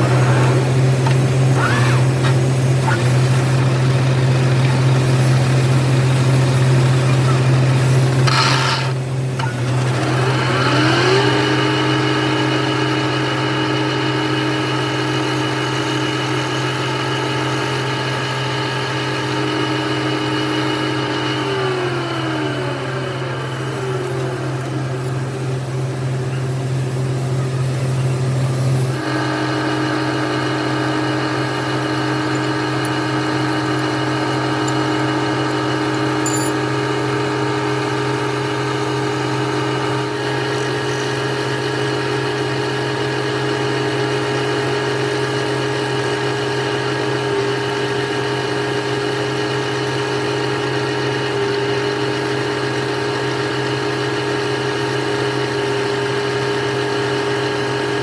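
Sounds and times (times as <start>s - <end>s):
motor whine: 0.0s - 58.0s
workshop machine motors humming: 0.0s - 58.0s.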